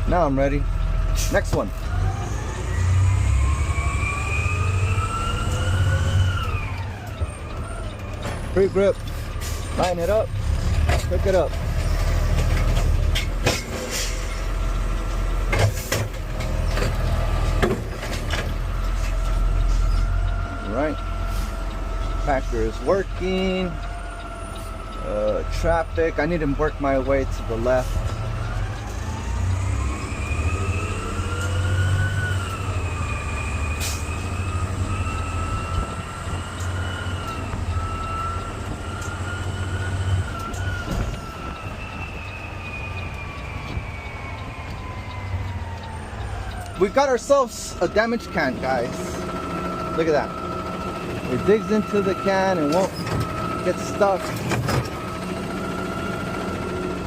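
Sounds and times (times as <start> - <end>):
garbage truck engine and hydraulics: 0.0 - 57.0.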